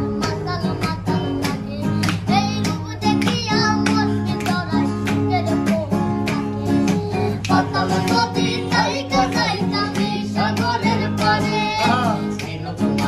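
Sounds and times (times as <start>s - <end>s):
acoustic guitar: 0.0s - 13.0s
person singing: 0.0s - 13.0s.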